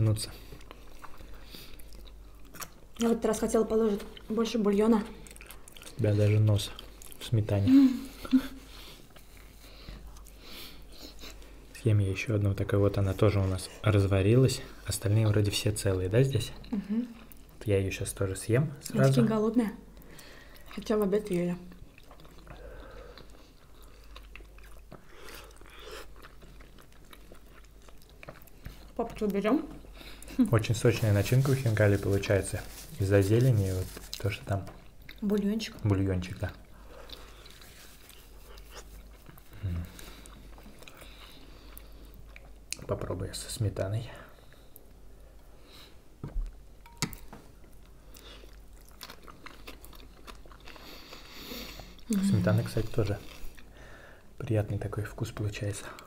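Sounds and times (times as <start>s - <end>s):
people chewing: 0.0s - 11.9s, 15.8s - 19.3s, 19.9s - 43.0s, 47.1s - 54.2s.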